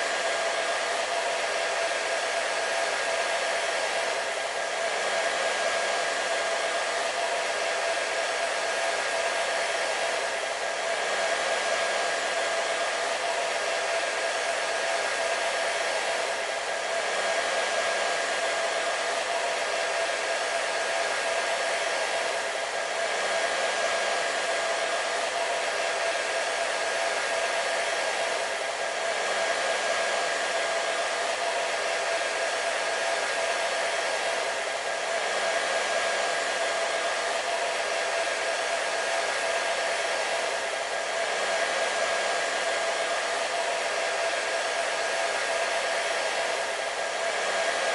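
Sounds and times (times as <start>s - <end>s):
hair dryer running: 0.0s - 47.9s.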